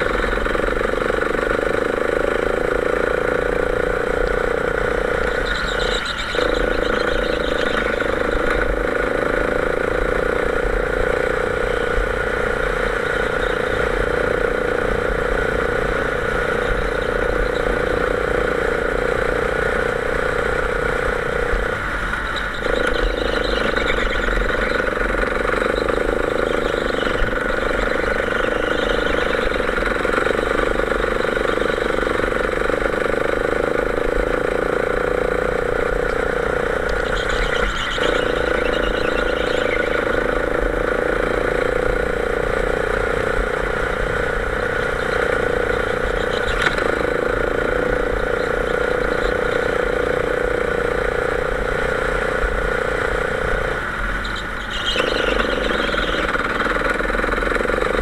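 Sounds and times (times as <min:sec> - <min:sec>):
go-kart engine at high revs: 0:00.0 - 0:58.0.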